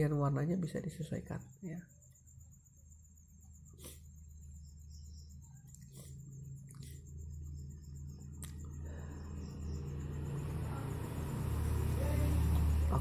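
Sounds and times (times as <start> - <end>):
faint insect-like chirping: 0.0 - 13.0
steady low hum: 0.0 - 13.0.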